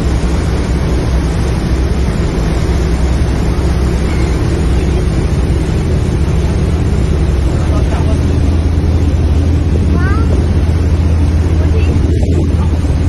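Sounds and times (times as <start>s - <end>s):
boat engine humming: 0.0s - 13.0s
water churning in wake: 0.0s - 13.0s.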